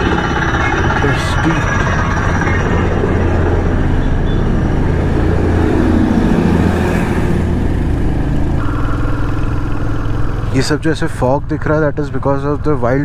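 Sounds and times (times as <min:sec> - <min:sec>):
motorcycle engine running: 0:00.0 - 0:13.0
road and traffic noise: 0:00.0 - 0:13.0.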